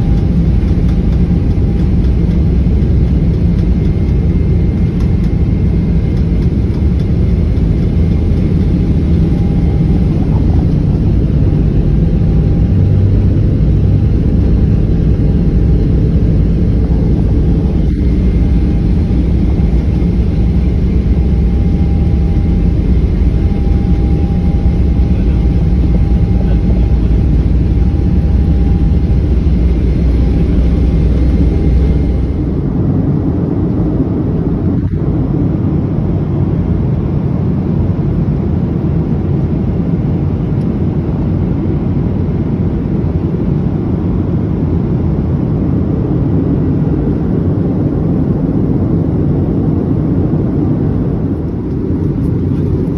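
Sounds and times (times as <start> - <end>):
airplane cabin engine noise: 0.0 - 52.9
faint high whine: 0.0 - 52.9.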